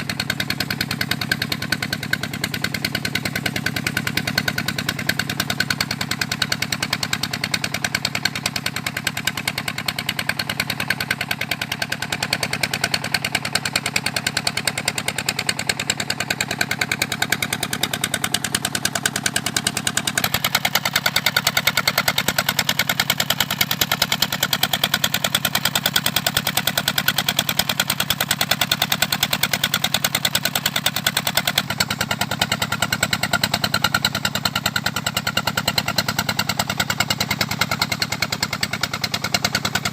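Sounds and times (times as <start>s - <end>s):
small pump engine chugging: 0.0s - 39.9s.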